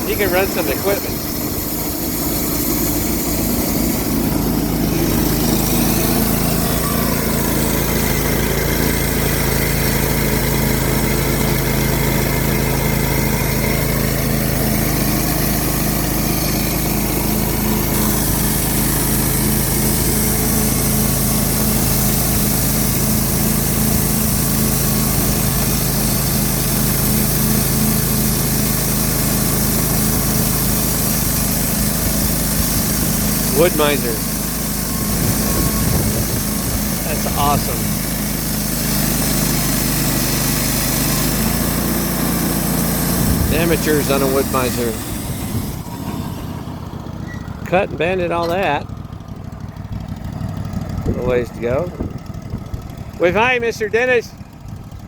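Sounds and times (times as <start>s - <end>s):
band blade sawing log: 0.0s - 46.7s
small engine droning: 0.0s - 55.0s.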